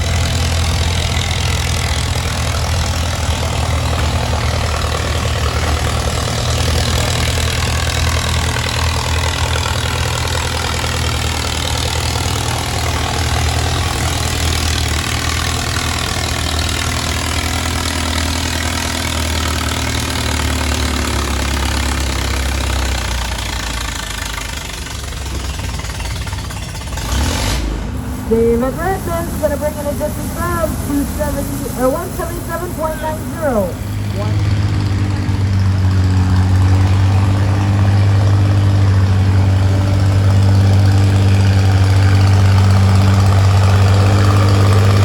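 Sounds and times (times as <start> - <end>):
tractor engine running loudly: 0.0 - 45.0.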